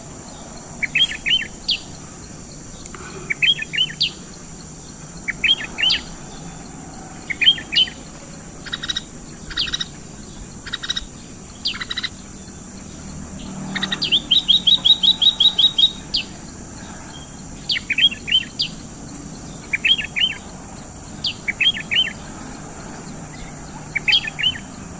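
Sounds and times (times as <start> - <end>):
bird singing: 0.0 - 24.9.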